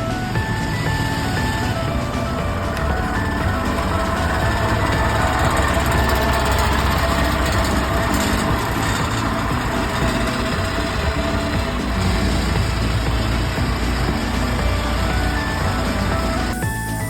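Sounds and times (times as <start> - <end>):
vehicle running rumble: 0.0 - 17.0.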